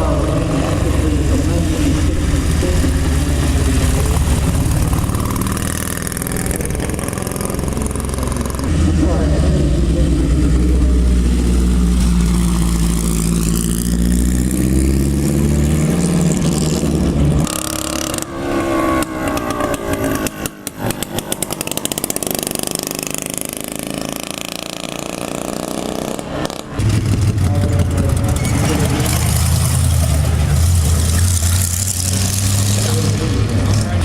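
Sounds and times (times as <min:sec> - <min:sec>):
crackling exhaust: 0:00.0 - 0:34.0
race car engines revving: 0:00.0 - 0:34.0.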